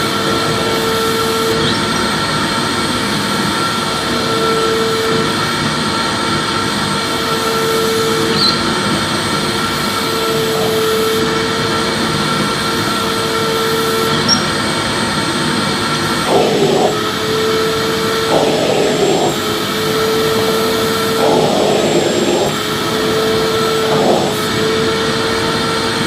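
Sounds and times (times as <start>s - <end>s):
vacuum cleaner whining hum: 0.0s - 26.0s.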